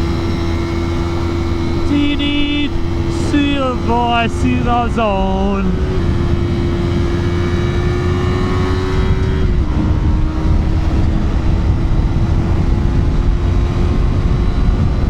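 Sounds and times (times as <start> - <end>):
motorcycle engine at steady revs: 0.0 - 15.0
wind rumble on microphone: 0.0 - 15.0.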